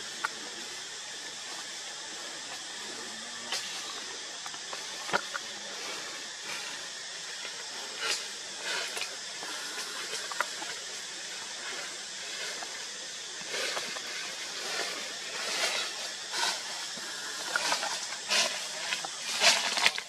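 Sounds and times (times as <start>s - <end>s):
leaves and branches rustling: 0.0s - 20.0s
outdoor ambient hiss: 0.0s - 20.0s.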